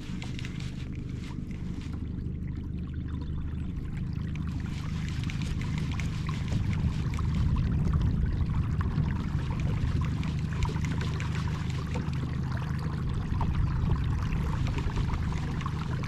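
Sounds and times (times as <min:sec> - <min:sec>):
low steady rumble: 0:00.0 - 0:16.0
water lapping against hull: 0:00.0 - 0:16.0.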